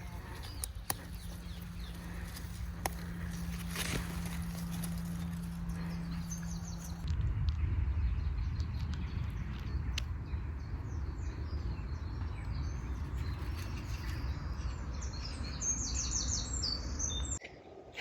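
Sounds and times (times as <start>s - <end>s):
wind rumble on microphone: 0.0s - 17.4s
small birds chirping: 0.0s - 17.5s.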